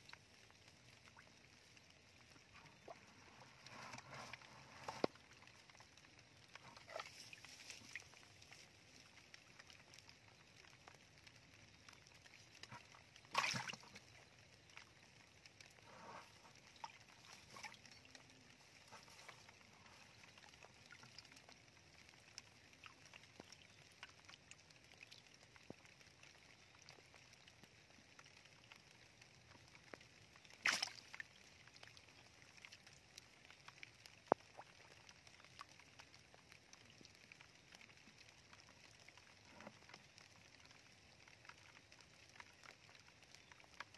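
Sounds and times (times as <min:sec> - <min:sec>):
fish splashing in shallow water: 0:00.0 - 0:25.8, 0:28.0 - 0:43.9
faint water in a channel: 0:00.0 - 0:43.9.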